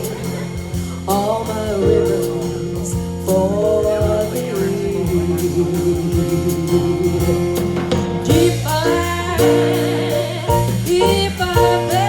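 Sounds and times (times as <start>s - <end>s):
woman singing: 0.0s - 7.4s, 8.2s - 12.0s
drums: 0.0s - 12.0s
electric bass: 0.0s - 12.0s.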